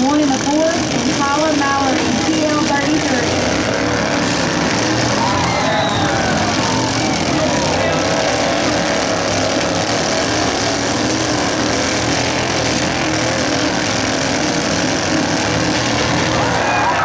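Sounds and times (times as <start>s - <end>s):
riding mower engines droning: 0.0s - 17.0s.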